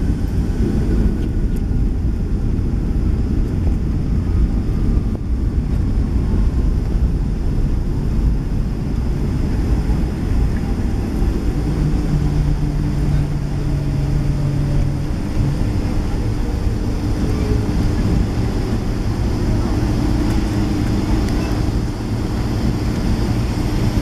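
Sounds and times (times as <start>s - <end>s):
low engine rumble: 0.0s - 24.0s
steady hum: 0.0s - 24.0s.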